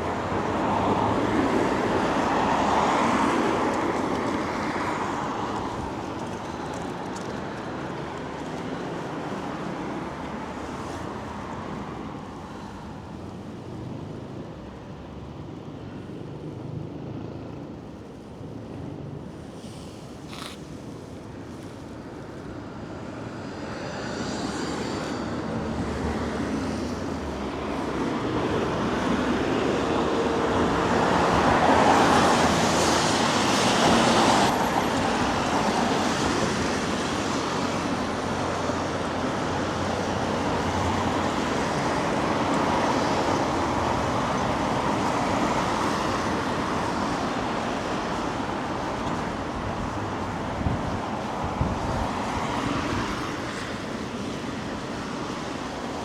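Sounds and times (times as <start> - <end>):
cars passing on wet road: 0.0 - 56.0.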